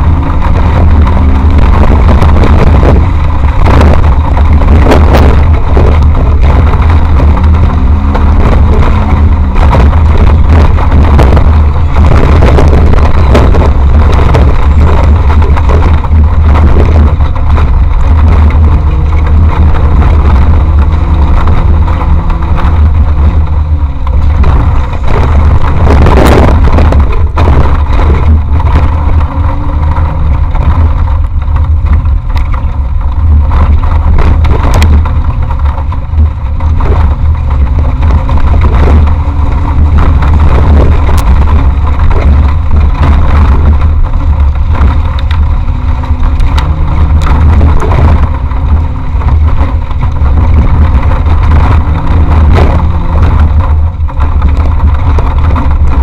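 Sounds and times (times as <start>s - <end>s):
heavy low rumble: 0.0s - 56.0s
knocks and rattles over rough ground: 0.0s - 56.0s
vehicle engine revving: 0.0s - 56.0s.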